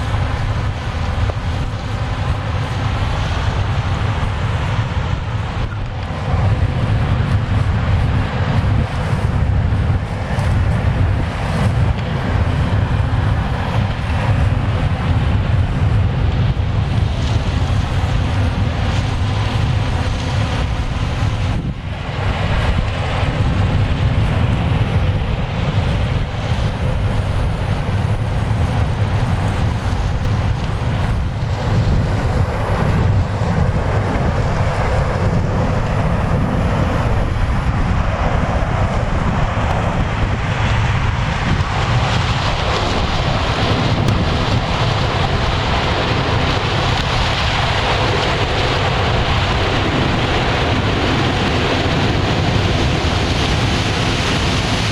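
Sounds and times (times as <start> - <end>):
harvester engine drone: 0.0 - 54.9
wind noise on microphone: 0.0 - 54.9.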